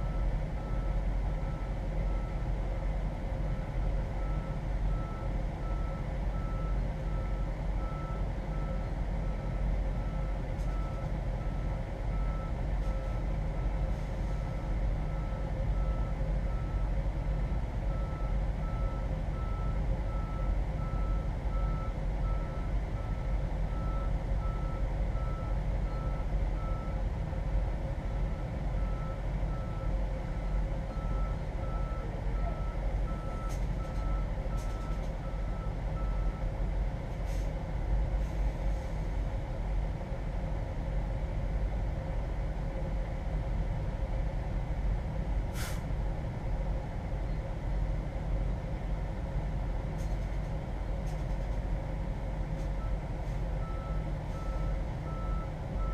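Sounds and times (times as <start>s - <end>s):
truck engine droning: 0.0s - 55.9s.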